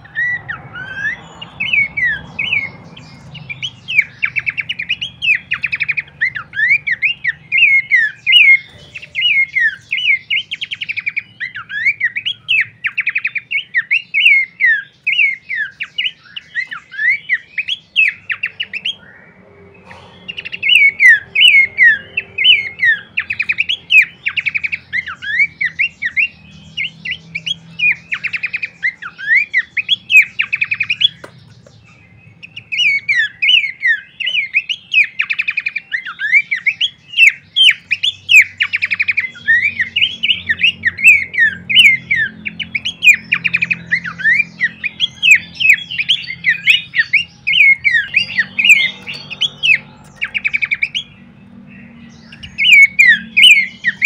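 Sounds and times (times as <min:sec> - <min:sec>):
bird singing whistled notes: 0:00.0 - 0:54.0.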